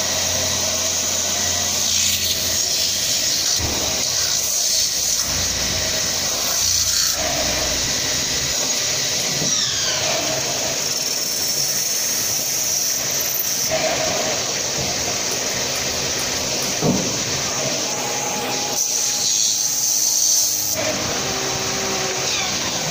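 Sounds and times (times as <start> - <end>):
metal-spinning lathe hissing: 0.0 - 22.9.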